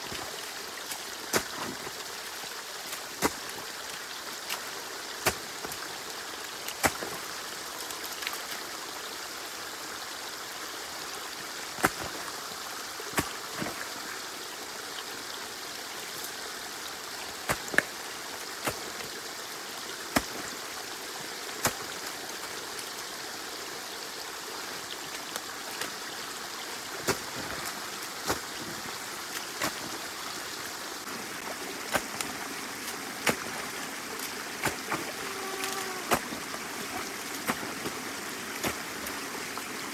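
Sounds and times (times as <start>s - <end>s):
water running through dam: 0.0s - 39.9s.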